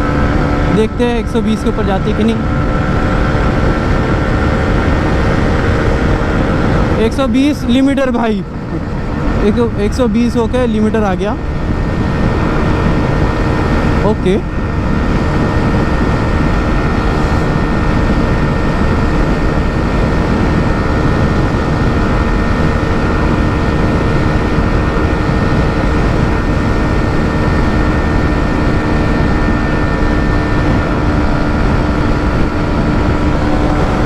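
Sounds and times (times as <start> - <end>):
motorcycle engine running high: 0.0 - 34.0
wind rush: 0.0 - 34.0.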